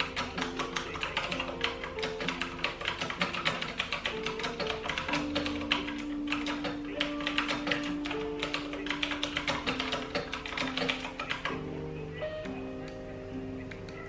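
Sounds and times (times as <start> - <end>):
mechanical keyboard typing: 0.0 - 11.7
background music with held notes: 0.0 - 14.0.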